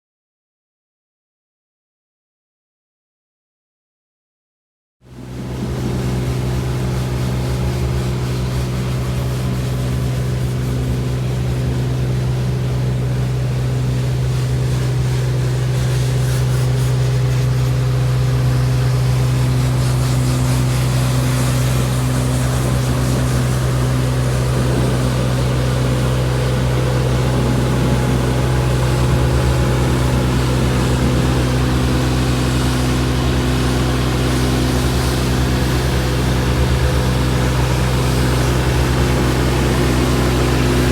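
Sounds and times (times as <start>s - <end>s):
diesel engine running: 5.1s - 40.9s.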